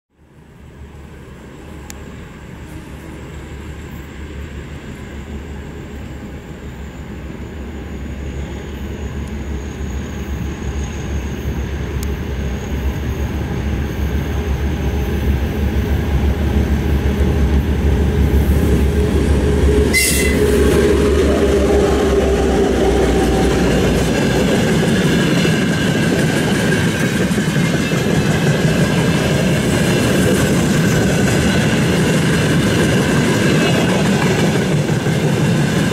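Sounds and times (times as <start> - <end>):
diesel locomotive engine drone: 0.1 - 35.9.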